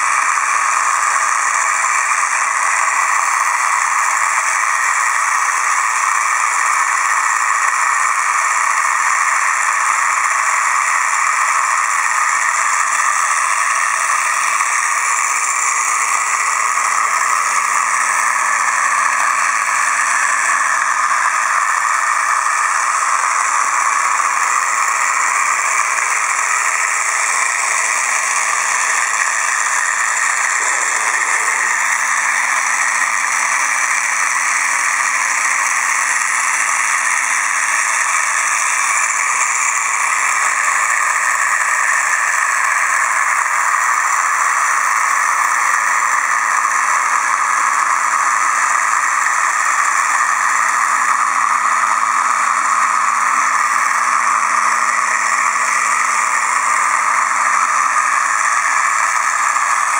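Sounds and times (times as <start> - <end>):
small motor and fan whirring: 0.0 - 59.9.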